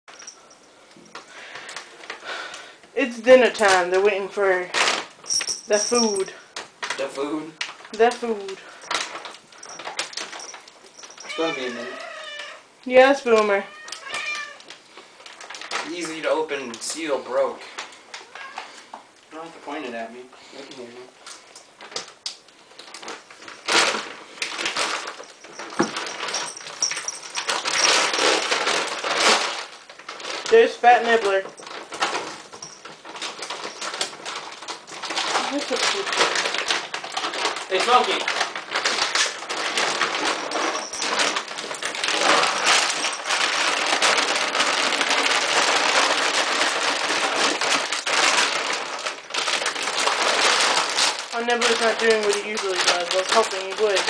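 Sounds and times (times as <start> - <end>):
pet food crunching and rattling: 3.3 - 12.4, 13.3 - 18.8, 21.2 - 54.0.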